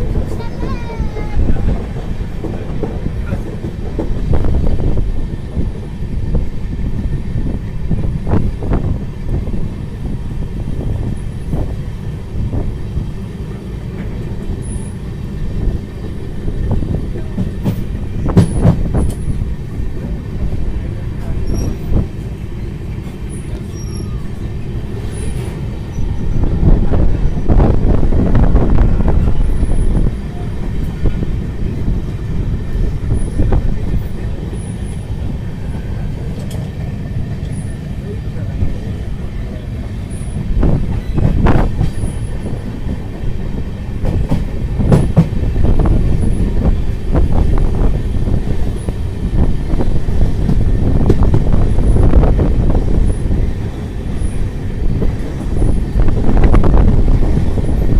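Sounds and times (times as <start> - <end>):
train rumble from on board: 0.0 - 57.9.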